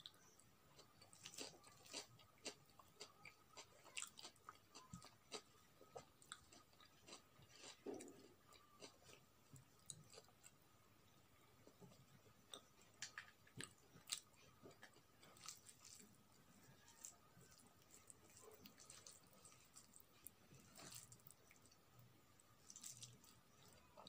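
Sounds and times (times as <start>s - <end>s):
fingers squishing wet food: 0.0s - 10.6s, 11.6s - 24.0s
soft chewing: 0.0s - 24.0s.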